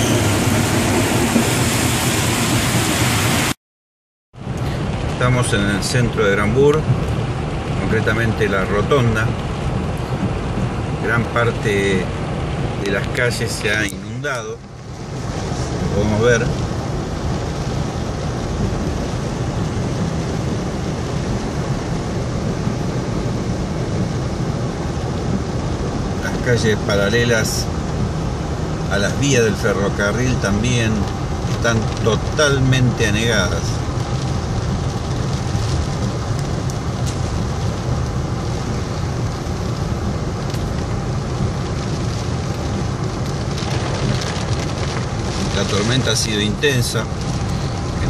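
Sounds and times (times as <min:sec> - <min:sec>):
rain hissing: 0:00.0 - 0:03.6, 0:06.7 - 0:48.0
wet tyres on road: 0:00.0 - 0:03.6, 0:04.4 - 0:48.0
car driving through floodwater: 0:04.4 - 0:48.0.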